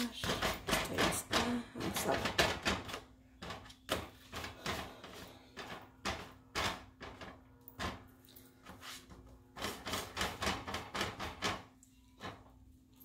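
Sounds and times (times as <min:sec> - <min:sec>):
fingertips tapping tortillas on griddle: 0:00.0 - 0:12.4.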